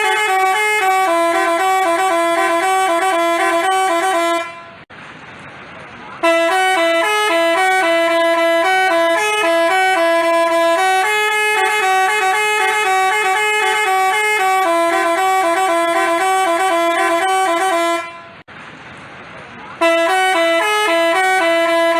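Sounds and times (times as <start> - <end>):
multi-tone musical bus horn: 0.0 - 4.9, 6.2 - 18.5, 19.8 - 21.9.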